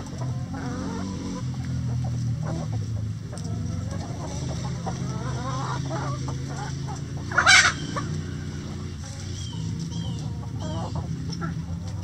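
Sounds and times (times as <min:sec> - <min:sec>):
hens clucking and chattering: 0:00.0 - 0:12.0.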